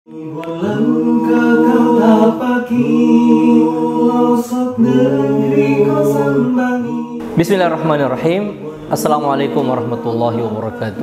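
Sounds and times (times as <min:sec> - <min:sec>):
voices singing in harmony: 0:00.1 - 0:11.0.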